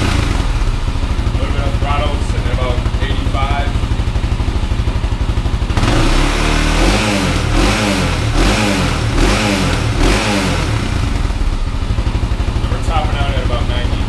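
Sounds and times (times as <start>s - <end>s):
atv engine idling and revving: 0.0s - 14.0s.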